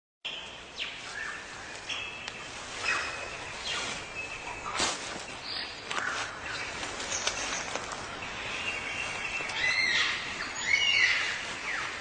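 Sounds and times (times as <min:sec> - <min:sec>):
birds calling: 0:00.3 - 0:12.0.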